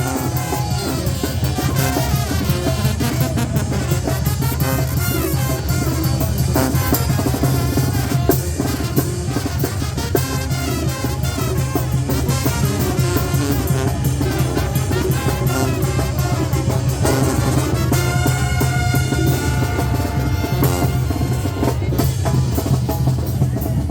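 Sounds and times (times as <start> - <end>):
brass band dance tune: 0.0 - 23.9.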